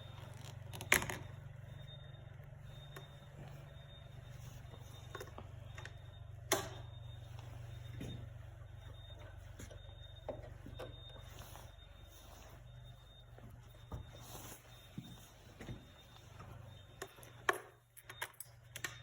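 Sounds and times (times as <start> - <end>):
engine running steadily: 0.0 - 17.5.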